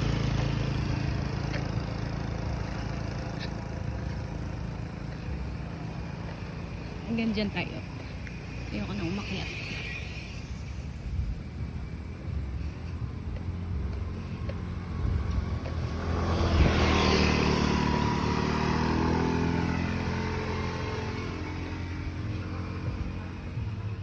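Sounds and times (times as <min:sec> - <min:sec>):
vehicle passing by: 0:00.0 - 0:24.0.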